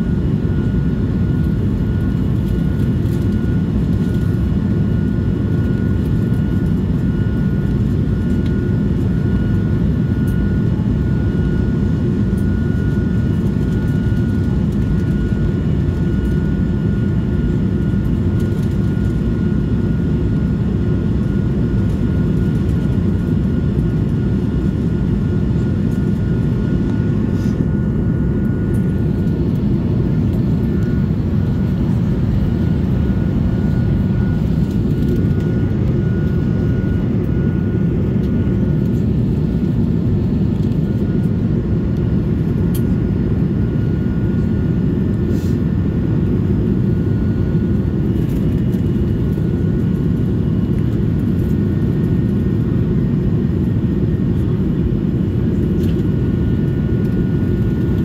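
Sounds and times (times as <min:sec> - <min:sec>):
jet engine low rumble: 0:00.0 - 0:58.0
thin steady whine: 0:00.0 - 0:58.0.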